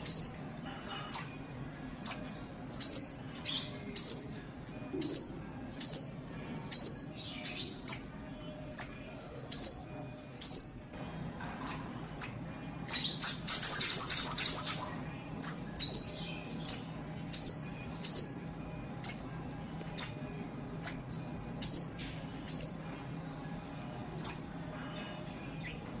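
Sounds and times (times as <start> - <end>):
bird rapid trill: 0.0 - 11.0, 11.7 - 19.4, 20.0 - 23.4, 24.2 - 24.7, 25.5 - 26.0
songbird chirping: 0.0 - 26.0.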